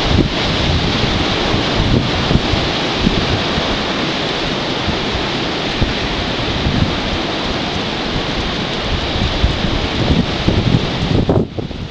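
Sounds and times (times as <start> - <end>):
strong wind blowing: 0.0 - 11.9
wind buffeting microphone: 0.0 - 11.9.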